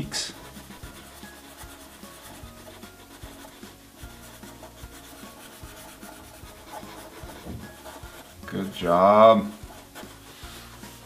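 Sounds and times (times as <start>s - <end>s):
markers rubbing on paper: 0.0s - 11.0s.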